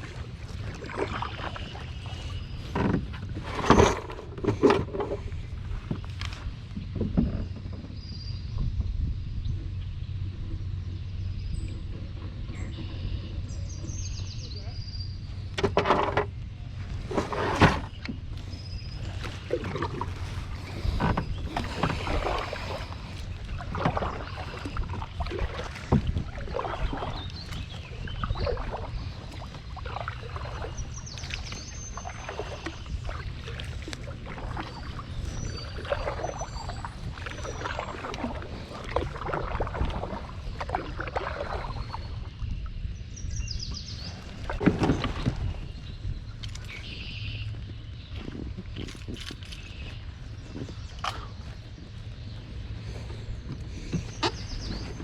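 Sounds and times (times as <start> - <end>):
steady low rumble: 0.0 - 55.0
water splashing around kayak: 0.0 - 55.0.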